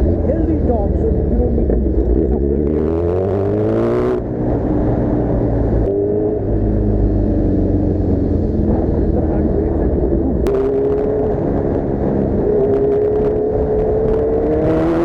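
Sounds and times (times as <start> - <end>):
low engine rumble: 0.0 - 14.2
motorcycle engine revving: 0.0 - 15.0.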